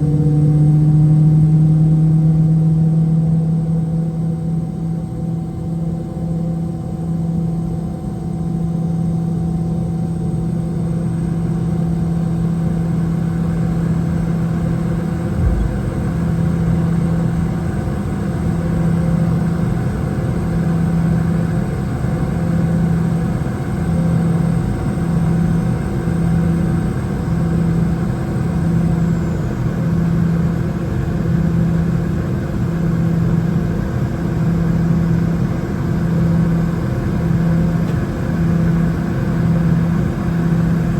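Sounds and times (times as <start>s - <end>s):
jet engines humming in cabin: 0.0s - 40.9s.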